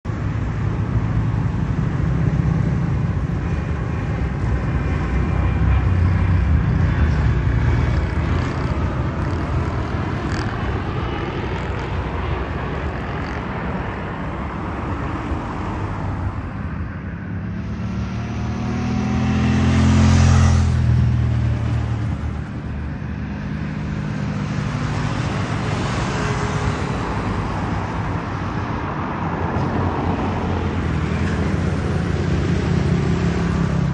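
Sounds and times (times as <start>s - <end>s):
jet engines passing: 0.1s - 33.9s.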